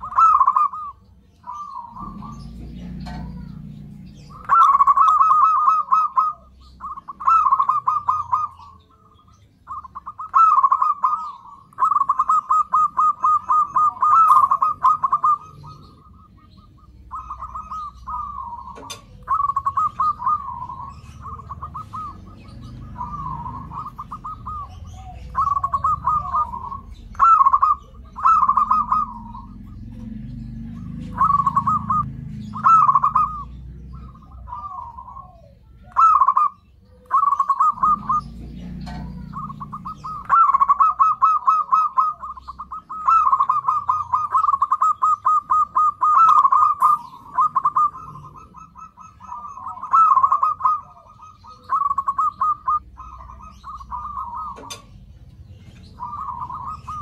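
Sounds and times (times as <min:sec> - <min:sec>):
dove rolling coos: 0:00.0 - 0:57.0.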